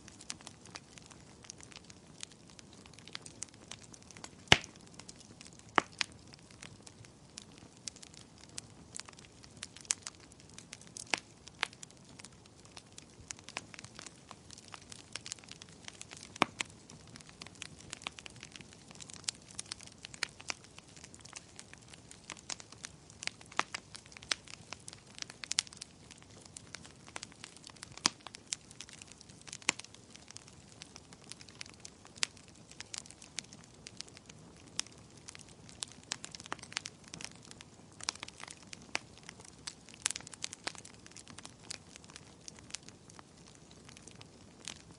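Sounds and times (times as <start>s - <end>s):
fire crackling and popping: 0.0s - 44.9s
soft steady hiss: 0.0s - 44.9s.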